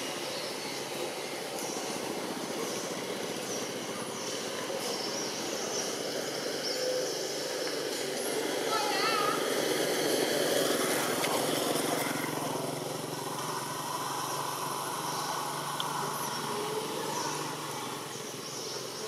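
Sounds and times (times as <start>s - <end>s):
small engine humming: 0.0s - 19.0s.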